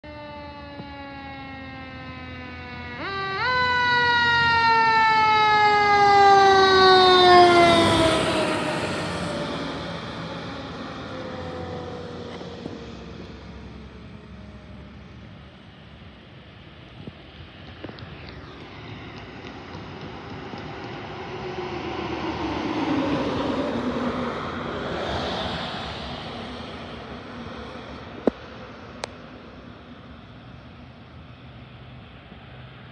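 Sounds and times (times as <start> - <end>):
fire engine siren: 0.0 - 30.3.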